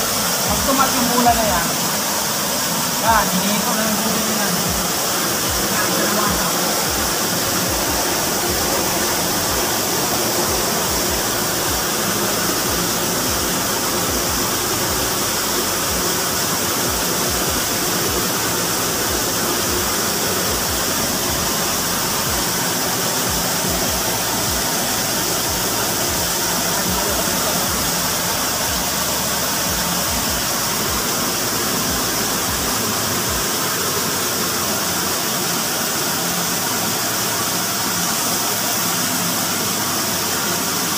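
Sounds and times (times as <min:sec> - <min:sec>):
water rushing through valve: 0:00.0 - 0:40.9
water spray hissing: 0:00.0 - 0:40.9.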